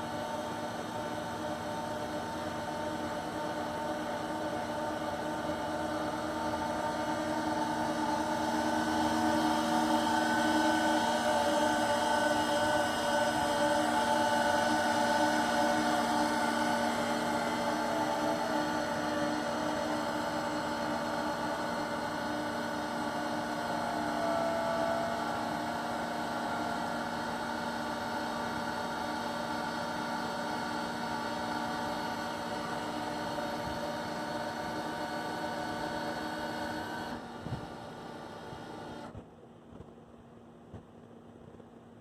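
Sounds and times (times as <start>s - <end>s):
electric motor hum: 0.0s - 39.2s.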